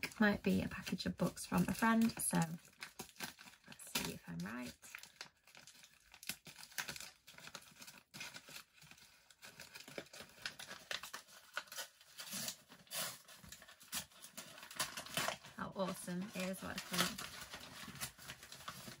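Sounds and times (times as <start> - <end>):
wrapping paper tearing and crinkling: 0.0 - 19.0.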